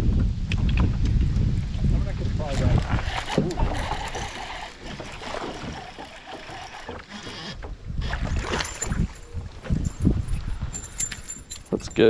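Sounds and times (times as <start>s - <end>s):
gusty wind: 0.0s - 12.0s
water noise: 0.0s - 12.0s.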